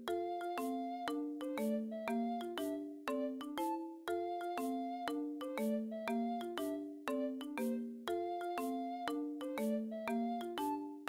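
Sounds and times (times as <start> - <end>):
bell-like mallet tune: 0.0 - 11.0.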